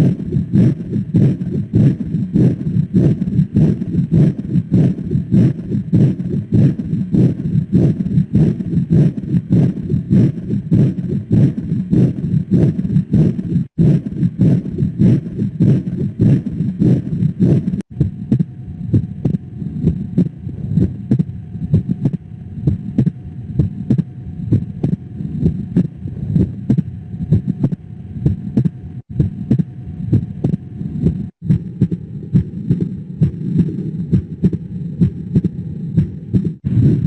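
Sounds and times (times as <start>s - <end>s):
heartbeat through stethoscope: 0.0s - 37.0s.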